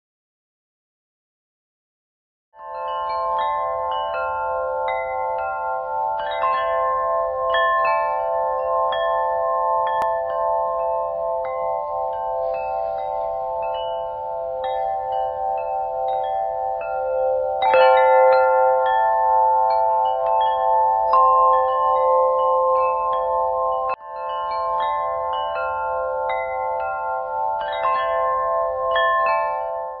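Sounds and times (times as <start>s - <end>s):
deep wind chimes ringing: 2.6s - 30.0s.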